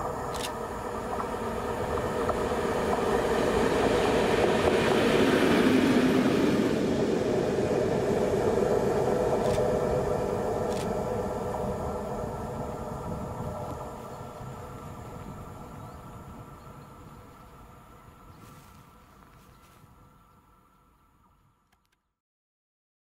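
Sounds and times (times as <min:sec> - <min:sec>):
train wheels on rails: 0:00.0 - 0:19.9
diesel locomotive passing: 0:00.0 - 0:21.4.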